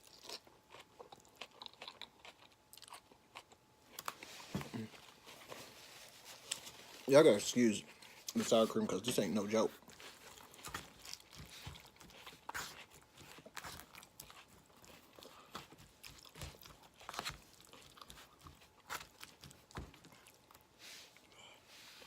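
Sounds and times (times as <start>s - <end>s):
person chewing food: 0.0s - 7.1s, 9.7s - 21.6s.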